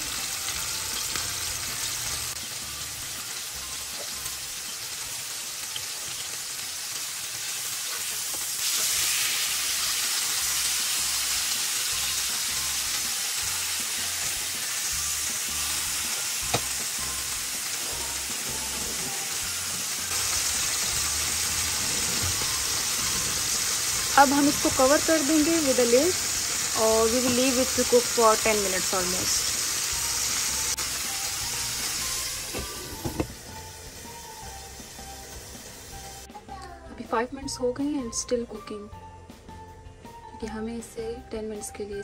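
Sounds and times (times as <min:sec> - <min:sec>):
steaks sizzling in a frying pan: 0:00.0 - 0:36.3.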